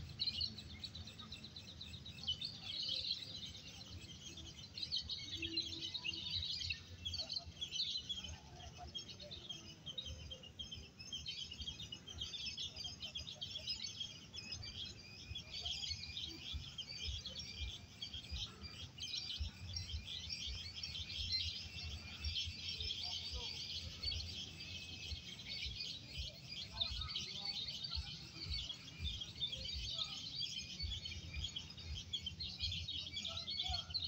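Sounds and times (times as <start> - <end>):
songbirds chirping and singing: 0.0 - 34.0.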